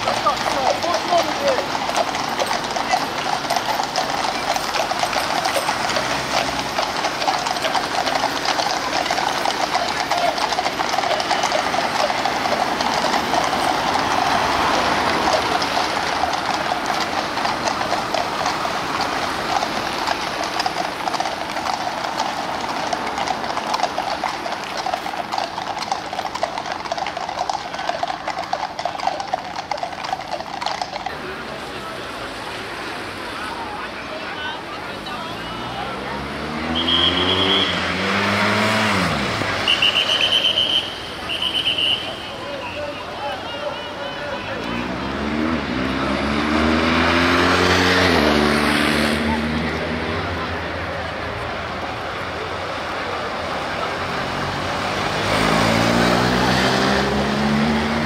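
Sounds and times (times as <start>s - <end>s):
horse hooves clip-clopping on road: 0.0s - 58.0s.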